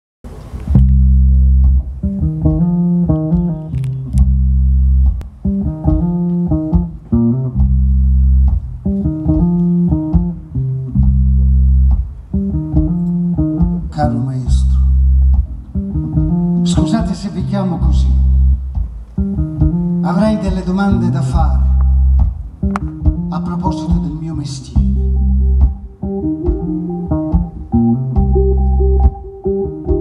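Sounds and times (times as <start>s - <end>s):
band playing led by electric bass: 0.3s - 30.0s.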